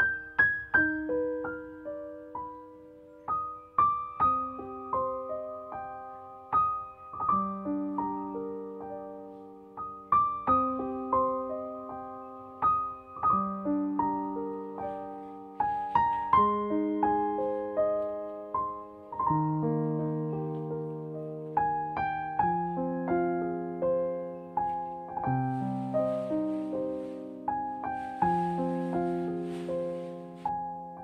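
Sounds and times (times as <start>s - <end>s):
slow solo piano music: 0.0s - 31.0s.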